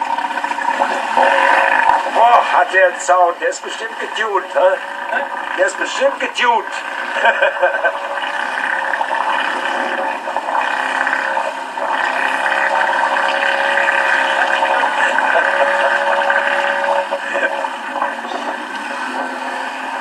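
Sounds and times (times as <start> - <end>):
boat motor running: 0.0 - 20.0
water rushing and splashing: 0.0 - 20.0.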